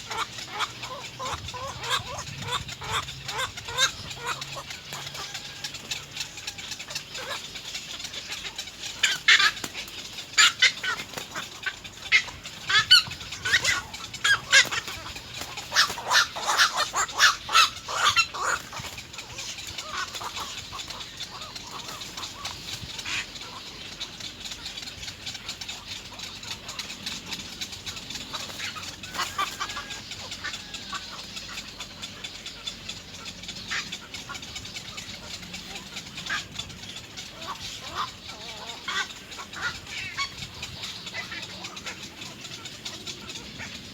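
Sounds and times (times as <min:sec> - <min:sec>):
egret chicks begging calls: 0:00.0 - 0:43.9.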